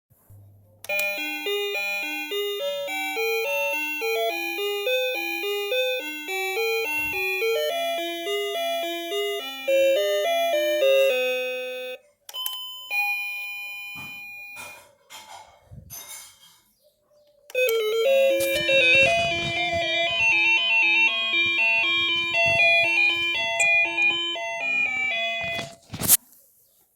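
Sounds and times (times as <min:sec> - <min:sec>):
doorbell chime melody: 0:00.9 - 0:14.8, 0:17.6 - 0:25.8.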